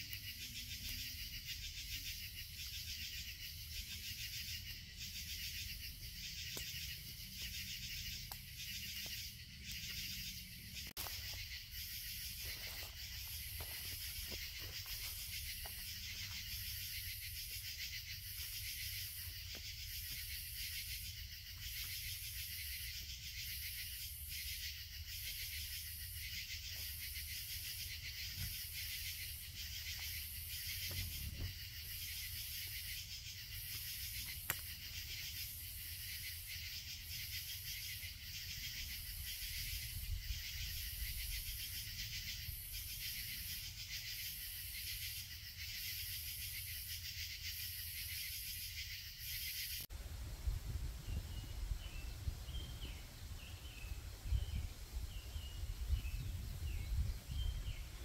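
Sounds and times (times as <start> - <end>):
night insect chorus drone: 0.0 - 58.0.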